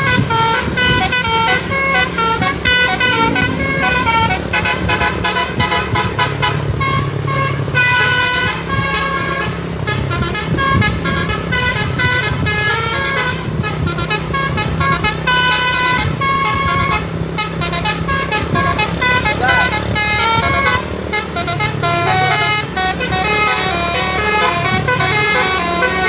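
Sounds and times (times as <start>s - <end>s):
bus engine humming: 0.0s - 26.0s
musical air horn melody: 0.0s - 26.0s.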